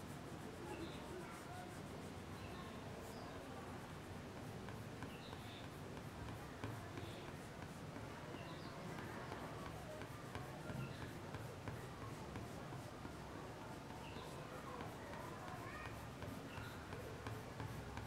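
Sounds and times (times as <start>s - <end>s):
colour stick scratching on paper: 0.0s - 18.0s.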